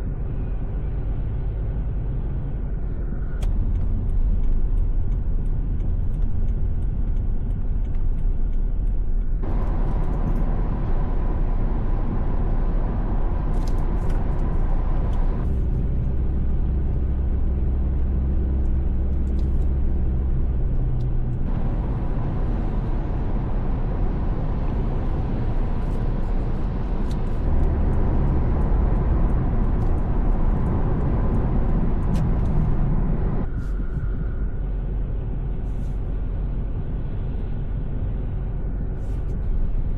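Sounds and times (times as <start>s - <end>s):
road vehicle rumble: 0.0s - 39.9s.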